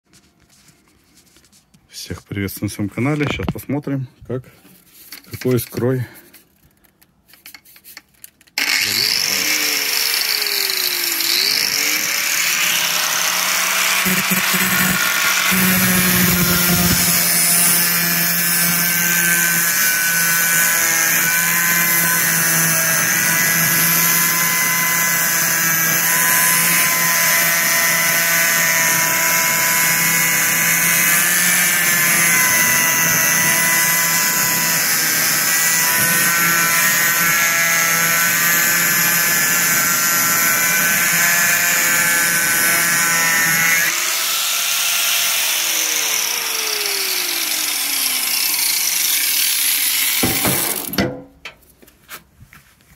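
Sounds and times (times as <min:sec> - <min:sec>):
angle grinder grinding metal: 0:07.4 - 0:51.0.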